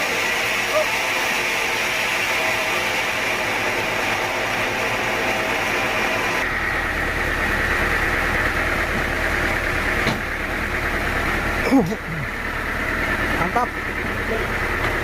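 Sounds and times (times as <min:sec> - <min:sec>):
low hum: 0:00.0 - 0:15.0
sawmill saw whining: 0:00.0 - 0:15.0.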